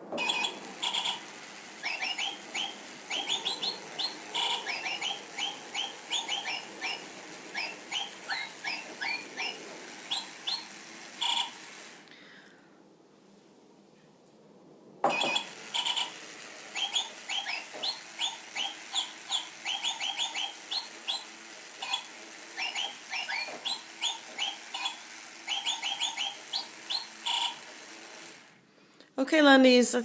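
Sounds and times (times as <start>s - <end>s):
electronic toy bird chirping a tune: 0.2s - 11.9s, 15.1s - 28.5s.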